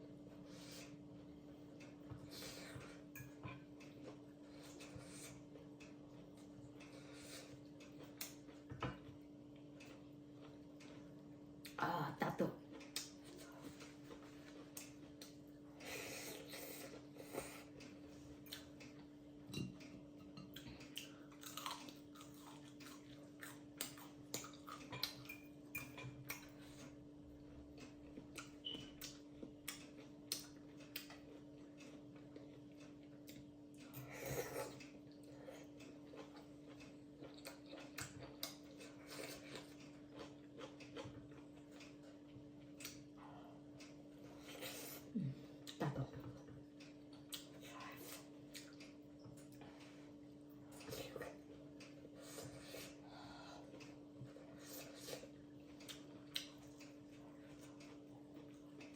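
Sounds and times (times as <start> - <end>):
faint steady hum: 0.0 - 58.9
person chewing: 1.7 - 11.8, 12.7 - 19.2, 19.8 - 45.8, 46.4 - 58.9.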